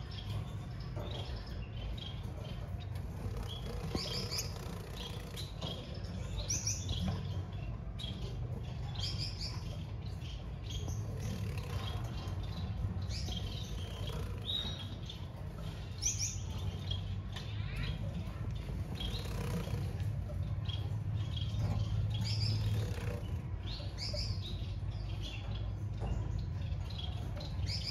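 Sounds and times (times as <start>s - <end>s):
finches chirping: 0.0s - 27.9s.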